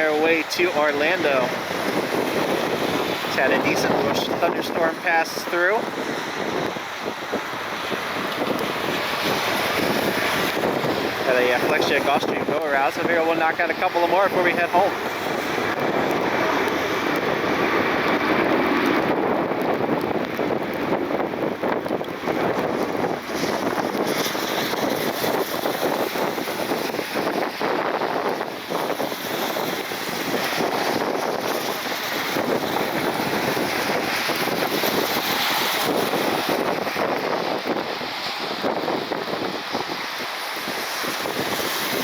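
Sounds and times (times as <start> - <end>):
gusty wind buffeting microphone: 0.0 - 42.0.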